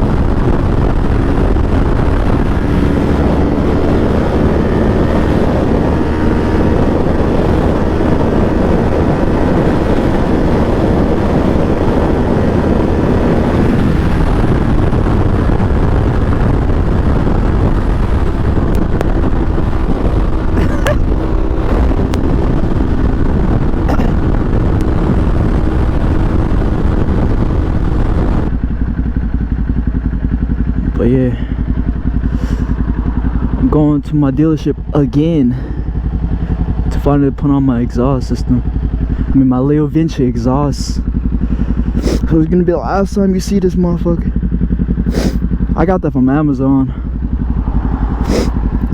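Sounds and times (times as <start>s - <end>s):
motorcycle engine running: 0.0s - 48.9s
wind rushing over microphone: 0.0s - 48.9s.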